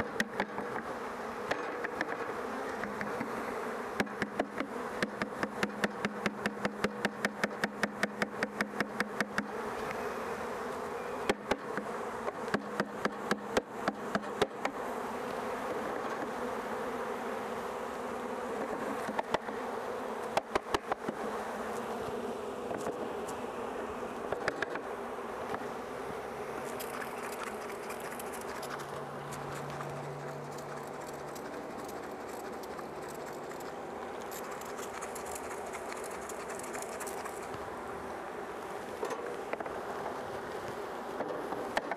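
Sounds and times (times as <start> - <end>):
honeybees buzzing: 0.0 - 41.9.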